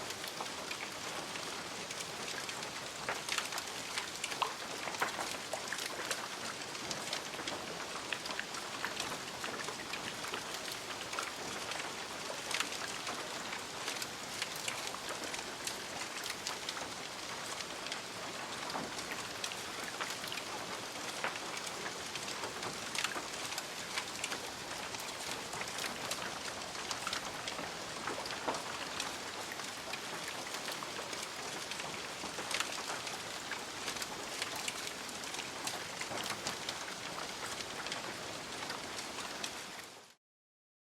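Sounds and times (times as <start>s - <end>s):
fire crackles and pops: 0.2s - 39.9s.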